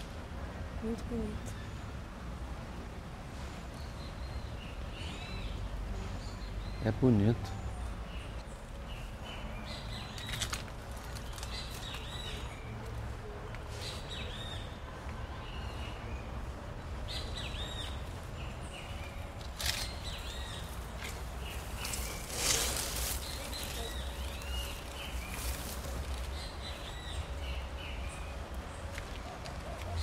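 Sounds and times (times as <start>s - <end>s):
small birds chirping: 3.6s - 30.0s.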